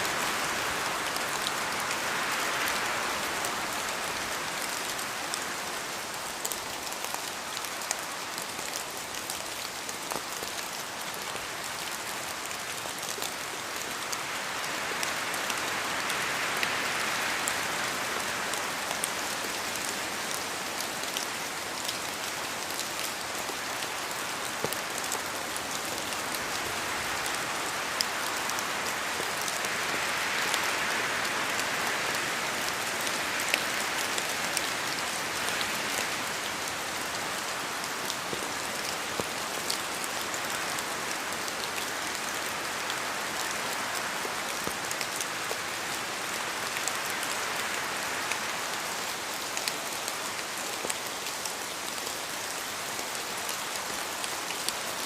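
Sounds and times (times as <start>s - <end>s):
rain in a forest: 0.0s - 55.0s.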